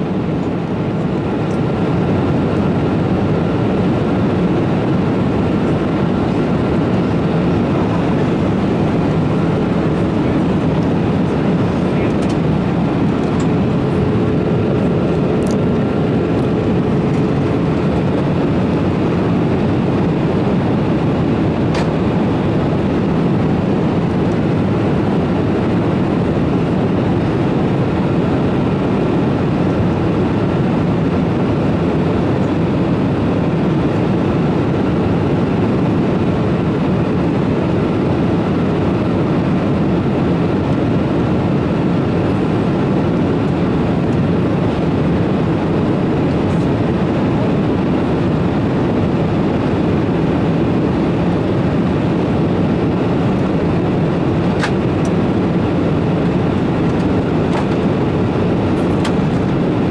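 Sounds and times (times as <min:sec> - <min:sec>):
airplane cabin air and engine noise: 0:00.0 - 0:59.9.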